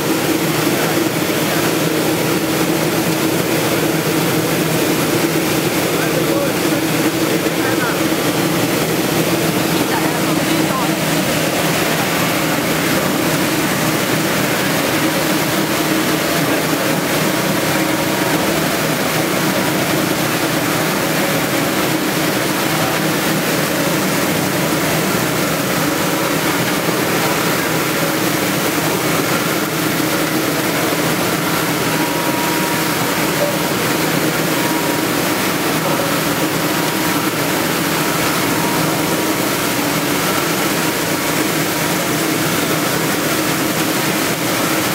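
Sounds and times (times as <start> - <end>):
machine drive humming: 0.0 - 44.9
water spraying and splashing: 0.1 - 44.9.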